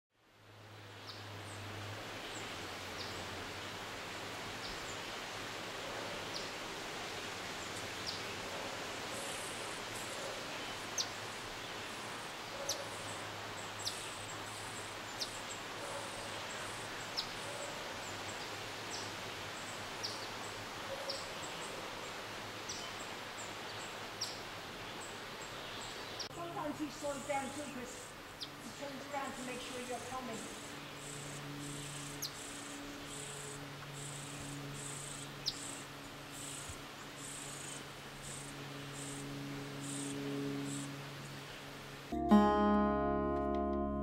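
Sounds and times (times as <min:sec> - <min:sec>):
steady background hiss: 0:00.2 - 0:42.5.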